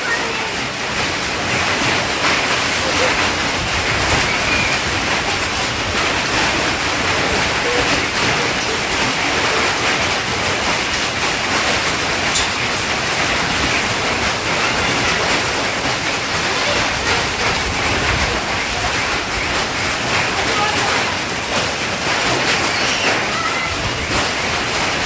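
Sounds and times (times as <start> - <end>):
hailstones ticking: 0.0 - 25.0
heavy rain hiss: 0.0 - 25.0.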